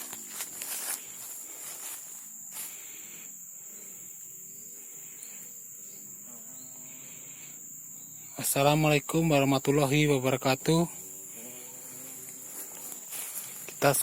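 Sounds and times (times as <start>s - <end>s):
insect chorus trilling: 0.0s - 14.0s.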